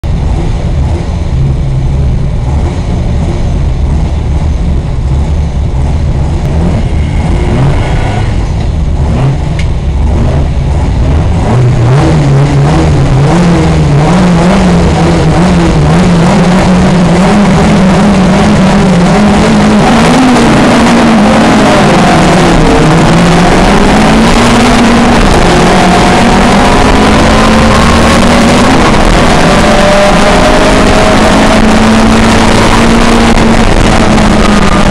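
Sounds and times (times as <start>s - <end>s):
racing car engines rumbling: 0.0s - 34.9s
engine revving and accelerating: 5.1s - 34.9s.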